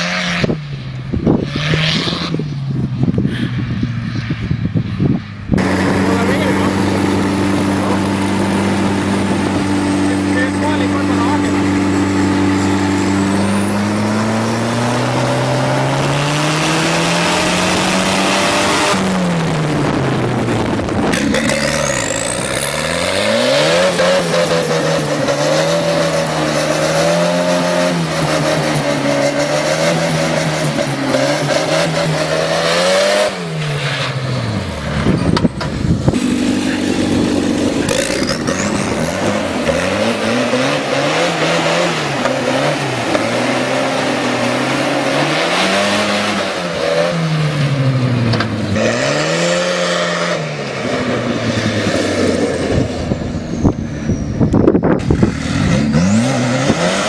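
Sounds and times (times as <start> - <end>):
tractor engine running hard: 5.4 - 33.4, 34.3 - 57.0.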